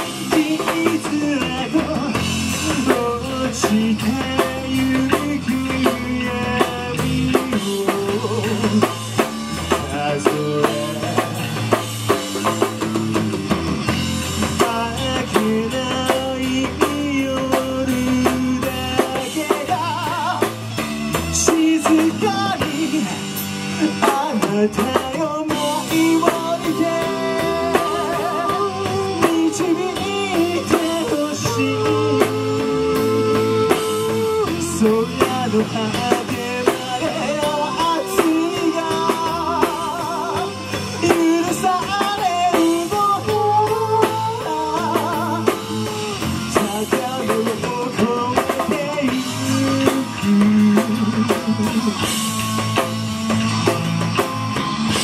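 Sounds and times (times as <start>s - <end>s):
man singing into microphone: 0.0s - 11.8s, 14.4s - 53.6s
bass guitar: 0.0s - 55.0s
drum kit: 0.0s - 55.0s
electric guitar: 0.0s - 55.0s.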